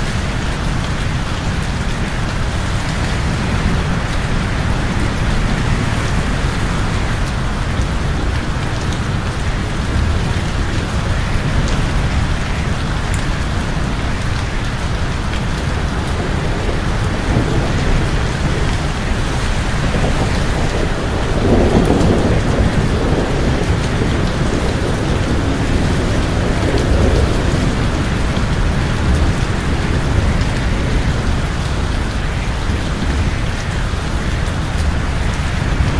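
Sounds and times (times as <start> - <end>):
dense rain falling: 0.0 - 35.9.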